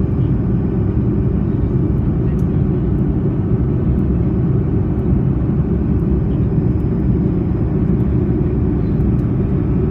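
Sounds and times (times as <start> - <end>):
jet engines rumbling in cabin: 0.0 - 9.9.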